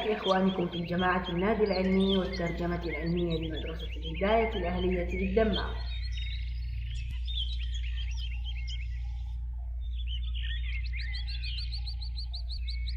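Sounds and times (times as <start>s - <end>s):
bird repeating rising note: 0.0s - 12.9s
songbirds chirping: 0.0s - 12.9s
steady low hum: 0.0s - 12.9s.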